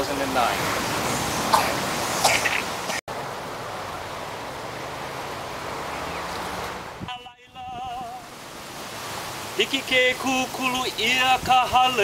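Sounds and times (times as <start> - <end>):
ocean surf: 0.0 - 12.0
wind: 0.0 - 12.0.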